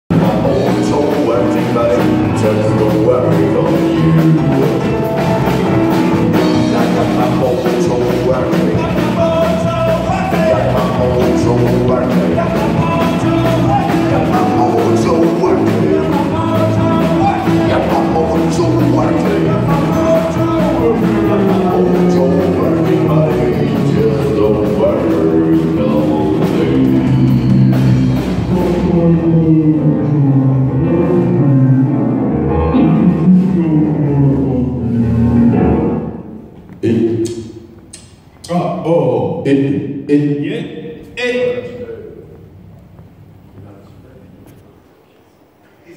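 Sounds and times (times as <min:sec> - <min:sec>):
rock and roll band playing: 0:00.1 - 0:37.1.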